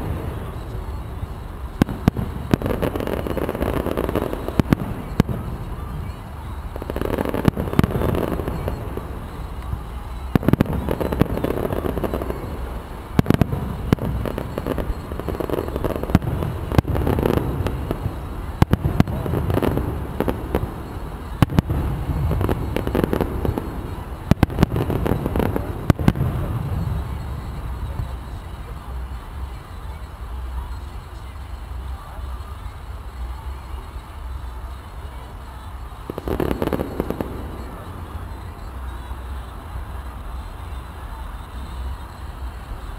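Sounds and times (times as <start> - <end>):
fireworks bursting with sharp bangs: 0.0 - 42.9.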